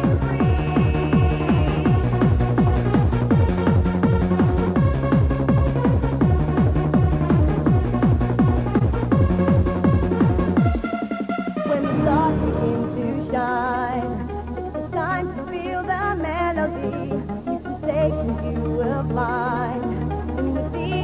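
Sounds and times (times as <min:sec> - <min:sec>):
fast electronic dance music: 0:00.0 - 0:21.0.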